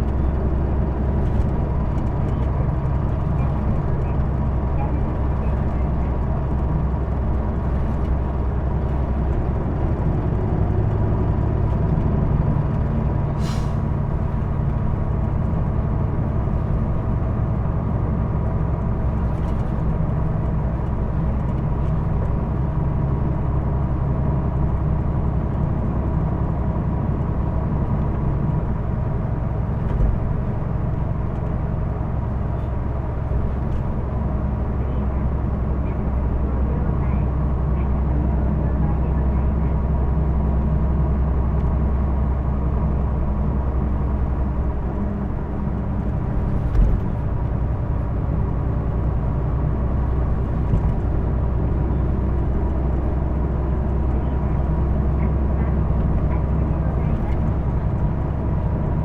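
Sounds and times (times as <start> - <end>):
bus engine and road drone: 0.0 - 59.0.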